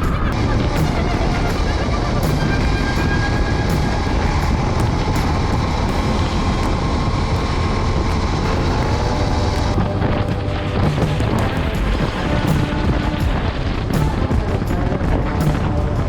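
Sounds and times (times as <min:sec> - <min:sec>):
motorcycle engine: 0:00.0 - 0:16.0
wind and road rush: 0:00.0 - 0:16.0.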